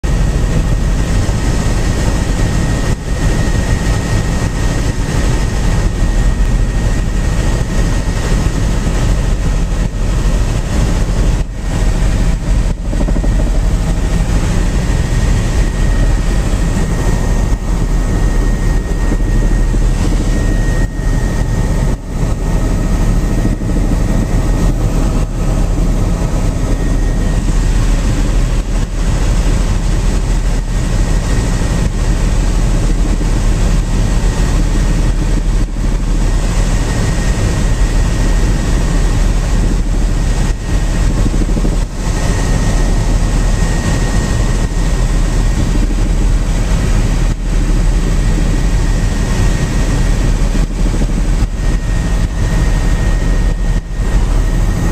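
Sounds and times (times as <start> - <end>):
helicopter engine and rotor drone: 0.0 - 54.9
high whine: 0.0 - 54.9.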